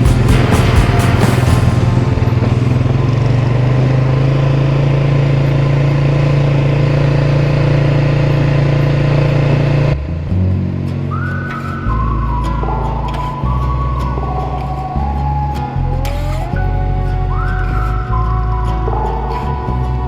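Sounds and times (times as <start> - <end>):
atv engine droning: 0.0 - 20.0.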